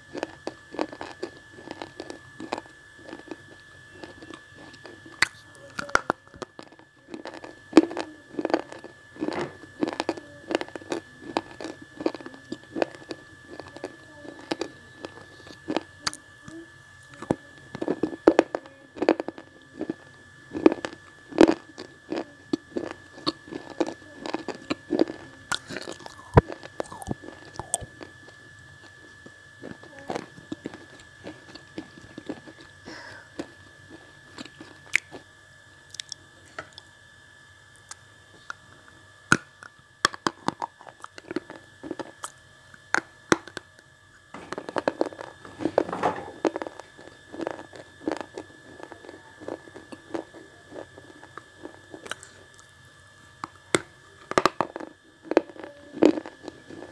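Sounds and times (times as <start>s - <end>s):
crunching and chewing slate: 0.0s - 32.8s, 33.4s - 35.2s, 35.9s - 36.9s, 39.3s - 52.8s, 53.4s - 56.9s.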